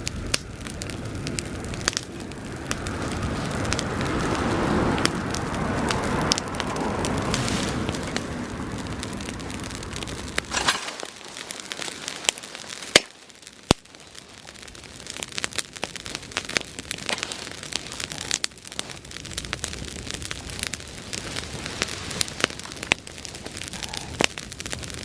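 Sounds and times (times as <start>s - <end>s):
grass fire crackling and popping: 0.0s - 25.0s
rushing flame: 0.0s - 25.0s.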